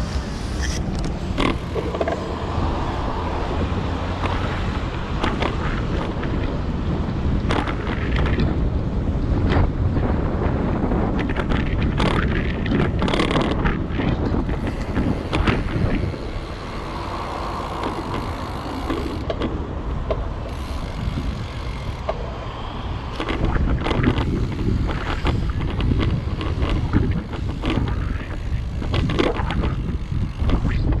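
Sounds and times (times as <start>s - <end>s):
street traffic: 0.0s - 31.0s
wind rumble on microphone: 0.0s - 31.0s.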